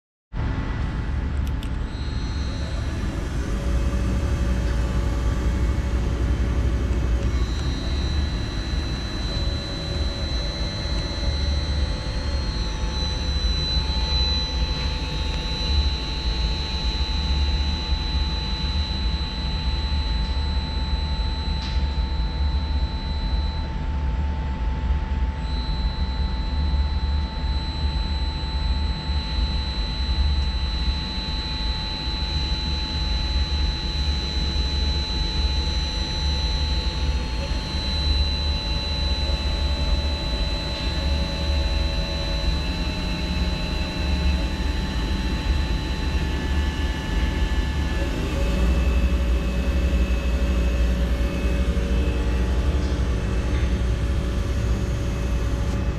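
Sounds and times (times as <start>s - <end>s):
machine spindle electric whine: 0.4s - 55.9s.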